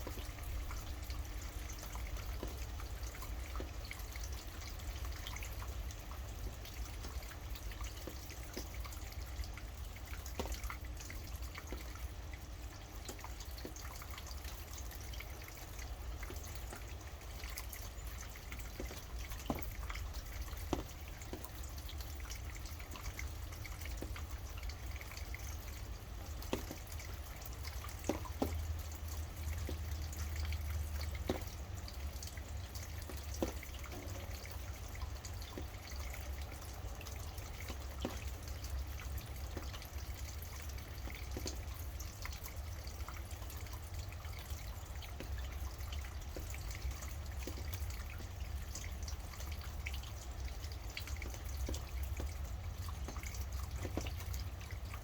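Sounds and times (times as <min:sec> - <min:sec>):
steady rainfall: 0:00.0 - 0:55.0
water drips: 0:00.0 - 0:55.0.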